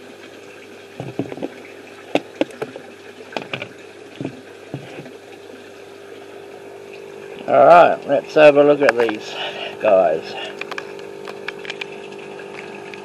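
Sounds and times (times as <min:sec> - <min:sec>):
pump humming: 0:00.0 - 0:13.0.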